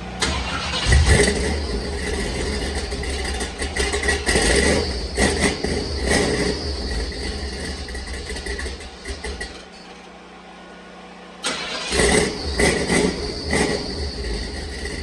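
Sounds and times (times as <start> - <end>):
car engine running: 0.0 - 10.7, 11.3 - 15.0.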